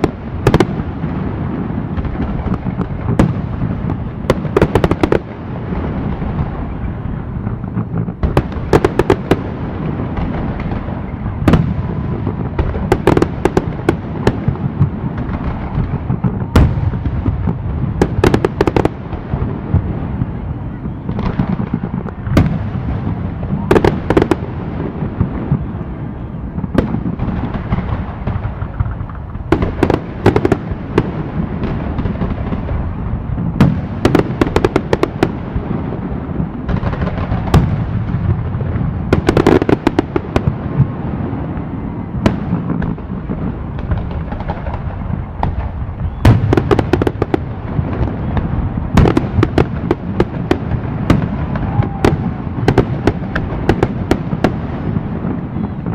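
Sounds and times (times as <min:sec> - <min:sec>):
distant fireworks rumble: 0:00.0 - 0:55.9
sharp firework cracks: 0:00.0 - 0:55.9.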